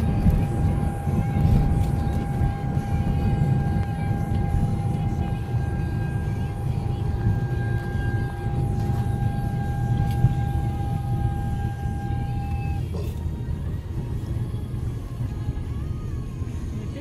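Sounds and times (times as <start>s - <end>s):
freight train rumbling past: 0.0s - 17.0s
steady high whine: 0.0s - 17.0s.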